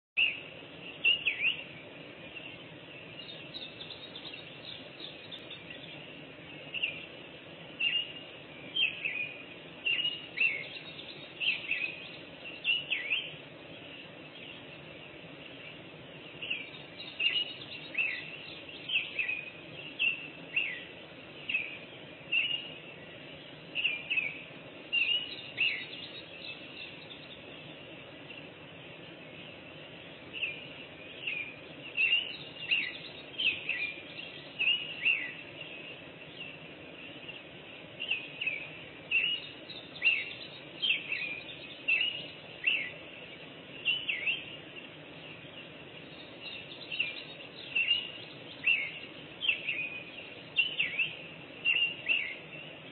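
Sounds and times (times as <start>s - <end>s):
faint outdoor hiss: 0.2s - 52.9s
wild birds singing: 0.2s - 52.9s.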